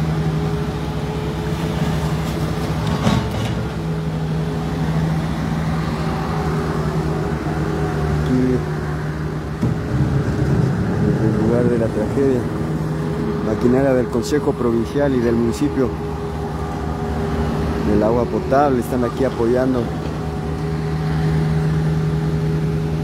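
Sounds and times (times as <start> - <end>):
large vehicle engine running: 0.0 - 23.0.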